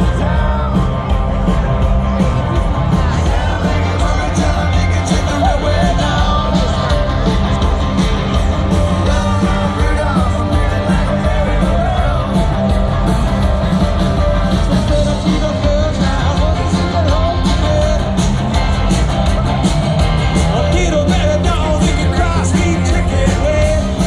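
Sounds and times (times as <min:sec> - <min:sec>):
person singing: 0:00.0 - 0:12.9, 0:14.4 - 0:18.7, 0:20.4 - 0:24.0
rock and roll band playing: 0:00.0 - 0:24.0.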